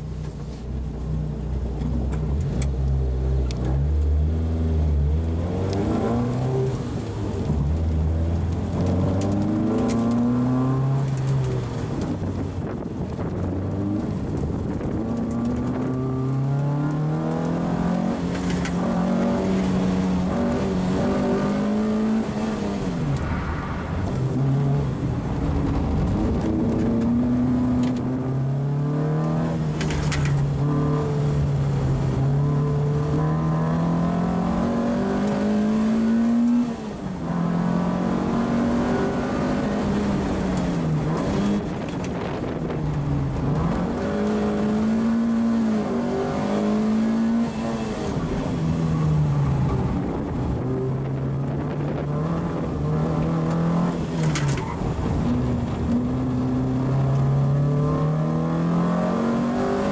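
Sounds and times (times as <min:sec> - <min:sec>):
car engine racing: 0:00.0 - 0:59.9.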